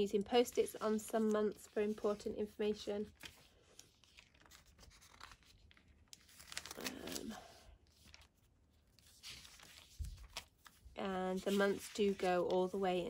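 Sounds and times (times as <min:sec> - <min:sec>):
paper pages rustling: 0:00.1 - 0:13.0.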